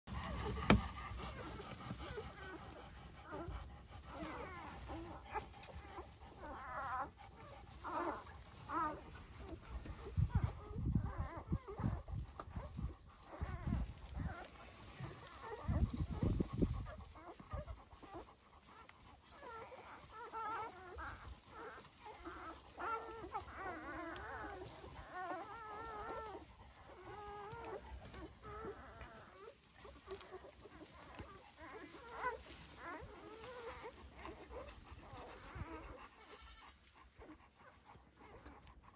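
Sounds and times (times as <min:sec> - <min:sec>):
puppies squeaking and whimpering: 0:00.1 - 0:38.9.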